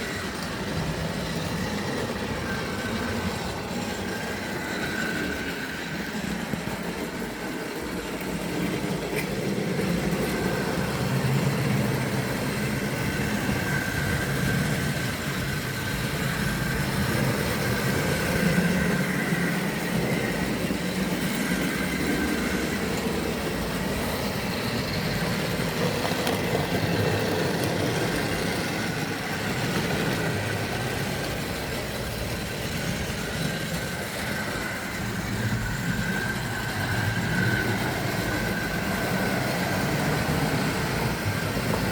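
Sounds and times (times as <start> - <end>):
model train motor whirring: 0.0 - 41.9
wheels rolling on rails: 0.0 - 41.9.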